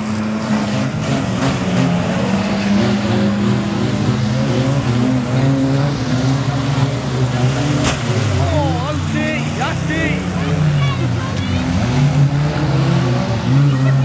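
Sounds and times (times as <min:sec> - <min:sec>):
racing car engines running: 0:00.0 - 0:14.0.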